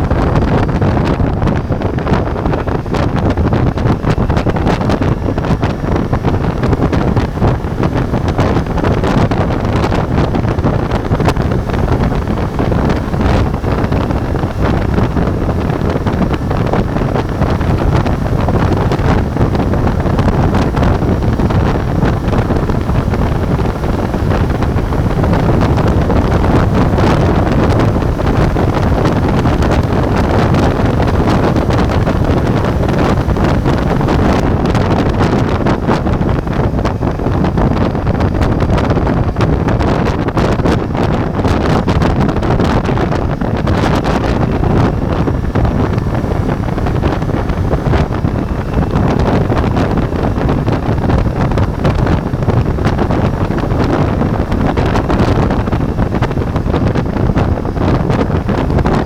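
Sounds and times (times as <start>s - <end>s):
motorcycle engine running: 0.0s - 59.0s
wind buffeting on microphone: 0.0s - 59.0s.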